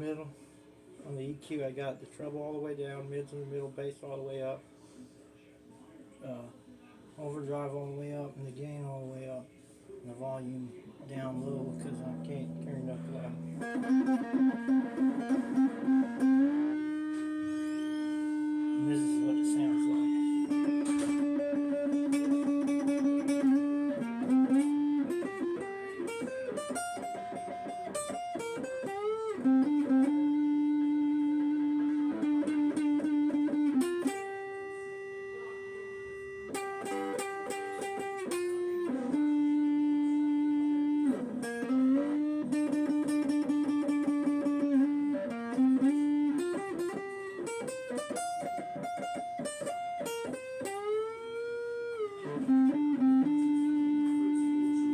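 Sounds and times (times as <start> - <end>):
overdriven electric guitar lead: 10.5 - 54.9.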